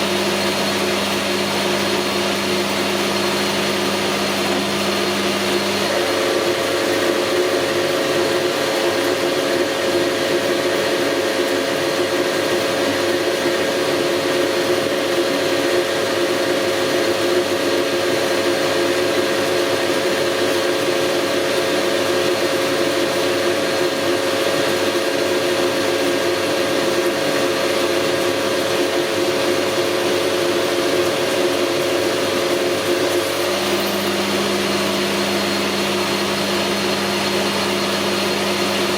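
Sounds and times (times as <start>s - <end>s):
metal lathe humming: 0.0s - 38.9s.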